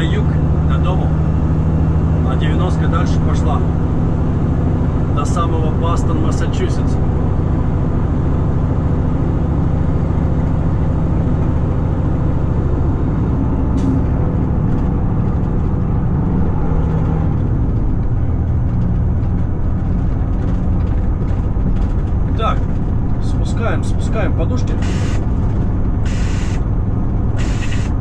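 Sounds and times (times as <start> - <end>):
diesel truck engine running: 0.0 - 28.0
tyre and road noise: 0.0 - 28.0.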